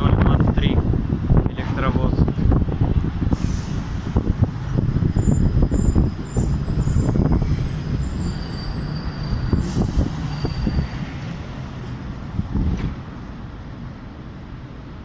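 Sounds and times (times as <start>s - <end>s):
train running on rails: 0.0s - 15.0s.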